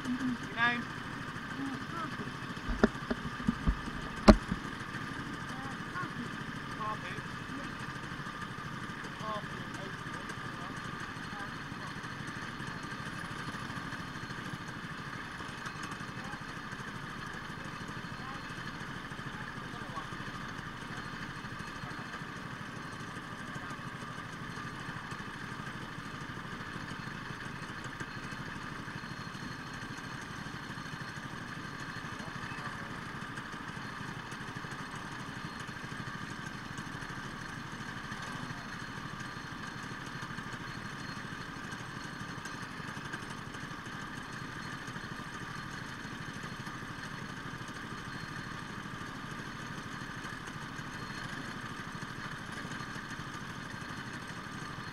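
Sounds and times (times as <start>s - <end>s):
go-kart engines idling: 0.0s - 54.9s.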